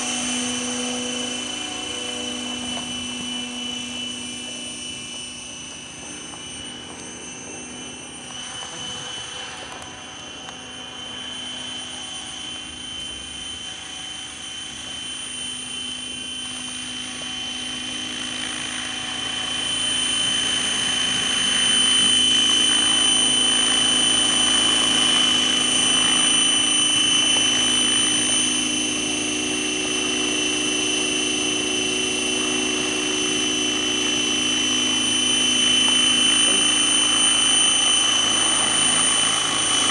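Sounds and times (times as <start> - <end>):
model helicopter whine and rotor: 0.0 - 39.9.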